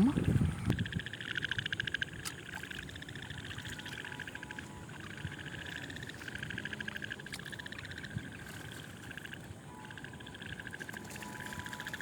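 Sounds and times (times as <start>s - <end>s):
frogs trilling: 0.0s - 12.0s.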